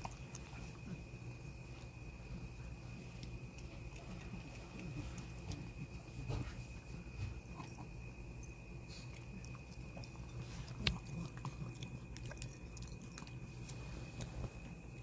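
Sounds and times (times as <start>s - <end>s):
dog chewing food: 0.0s - 15.0s
faint steady high tone: 0.0s - 15.0s.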